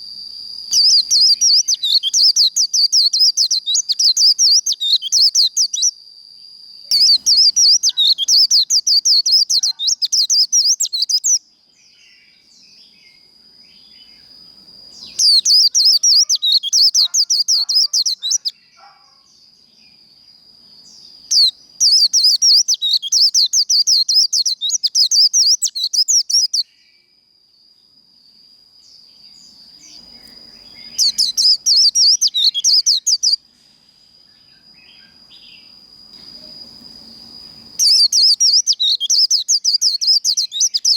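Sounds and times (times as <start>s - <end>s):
bird twittering song: 0.7s - 6.0s, 6.9s - 27.0s, 28.8s - 33.5s, 34.2s - 40.9s
soft bird chirps: 0.7s - 6.0s, 6.8s - 27.1s, 28.8s - 40.9s.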